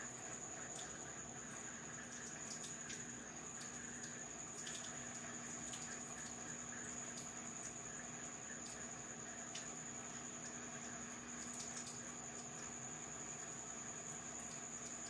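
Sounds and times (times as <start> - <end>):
water trickling in washing machine: 0.0 - 15.0.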